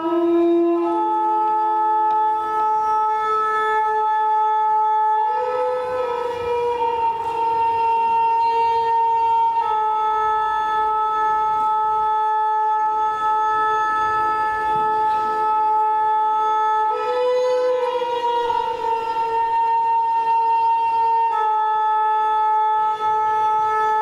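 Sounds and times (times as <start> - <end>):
wind instrument long notes: 0.0 - 24.0.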